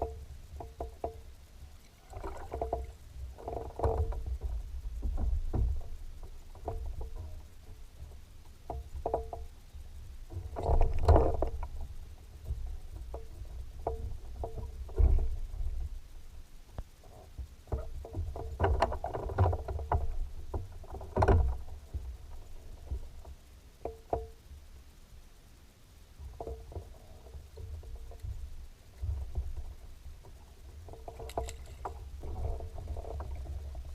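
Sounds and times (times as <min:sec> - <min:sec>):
wind rumble on microphone: 0:00.0 - 0:25.2, 0:26.0 - 0:33.9.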